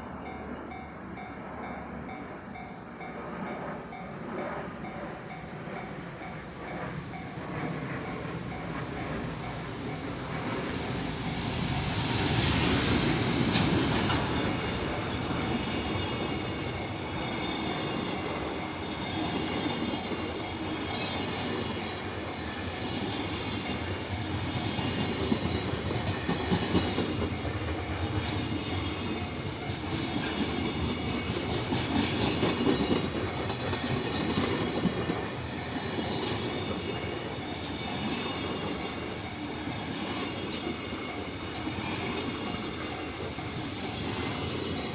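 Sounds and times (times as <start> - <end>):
train wheels clattering over rails: 3.2 - 44.9.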